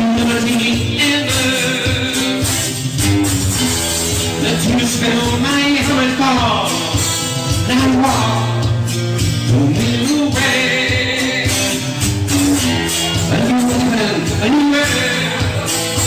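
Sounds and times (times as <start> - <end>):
man singing: 0.0 - 2.9, 4.0 - 16.0
amplified acoustic guitar: 0.0 - 16.0
bass line: 0.0 - 16.0.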